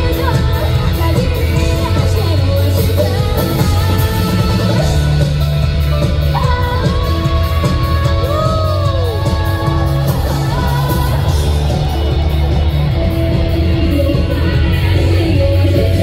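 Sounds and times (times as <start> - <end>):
bass and drums: 0.0 - 16.0
person singing: 0.0 - 16.0.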